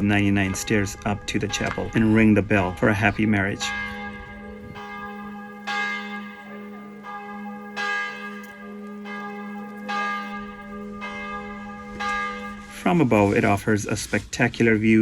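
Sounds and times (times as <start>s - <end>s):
church bell ringing: 0.0s - 13.1s.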